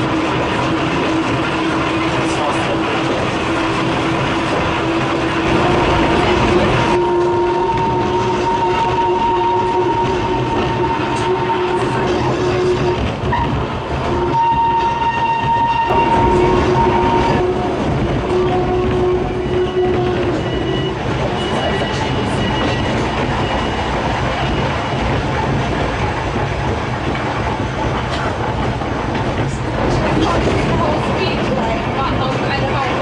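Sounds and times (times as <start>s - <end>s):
rumble of wheels on rail: 0.0s - 33.0s.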